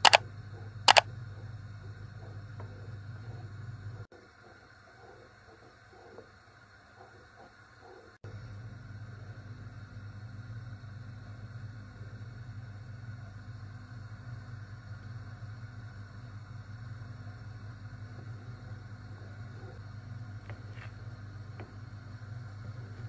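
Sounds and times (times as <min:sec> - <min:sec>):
low hum of kitchen range: 0:00.2 - 0:23.0.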